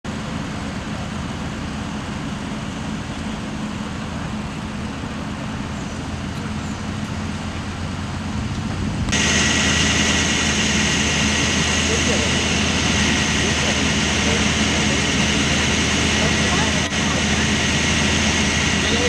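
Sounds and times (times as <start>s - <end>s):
engine and traffic noise: 0.0s - 19.0s
hissy engine with whine: 0.1s - 19.0s
low vehicle hum: 0.1s - 19.0s.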